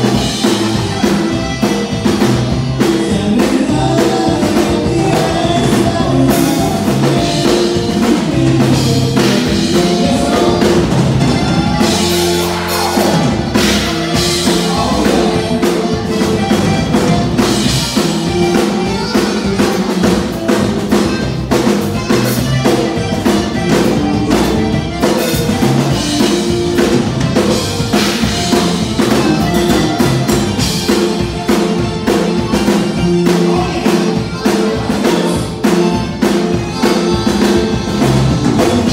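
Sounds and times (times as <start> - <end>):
band playing dance music: 0.0 - 38.9
bass line: 0.0 - 38.9
drum kit beat: 0.0 - 38.9.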